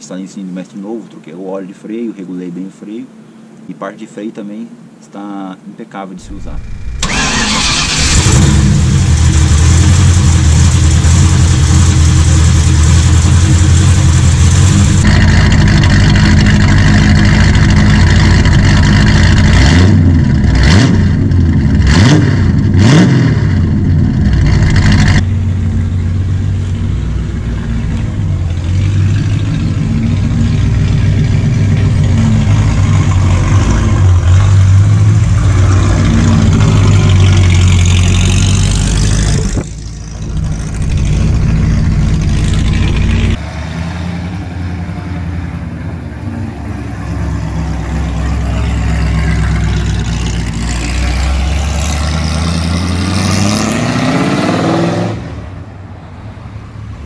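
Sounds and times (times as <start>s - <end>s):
car engine idling and revving: 6.2s - 57.0s.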